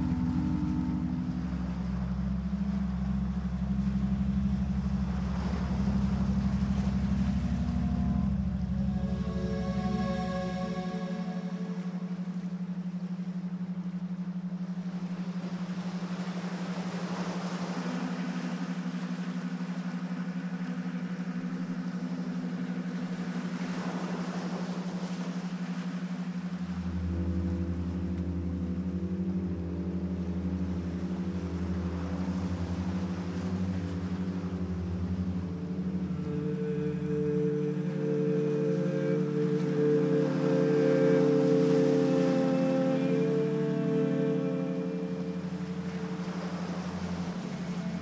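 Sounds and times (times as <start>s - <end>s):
ambient drone music: 0.0s - 48.0s.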